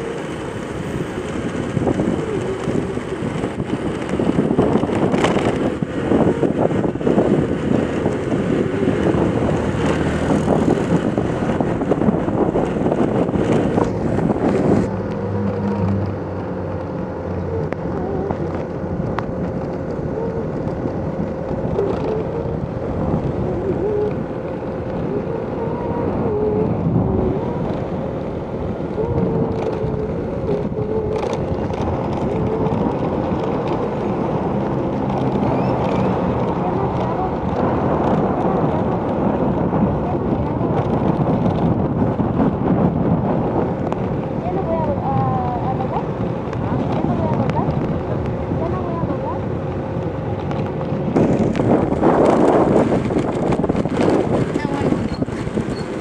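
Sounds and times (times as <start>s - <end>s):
vehicle road noise: 0.0s - 56.0s
wind buffeting microphone: 0.0s - 56.0s.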